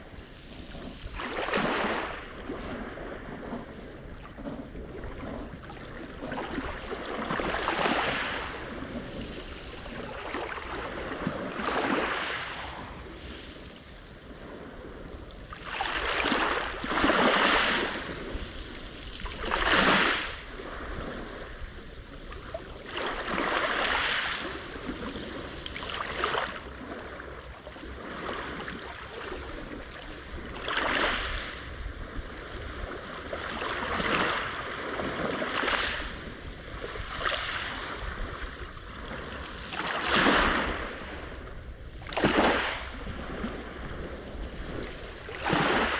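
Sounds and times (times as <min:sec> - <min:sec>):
steady surf: 0:00.0 - 0:45.9
waves breaking on shore: 0:00.0 - 0:45.9.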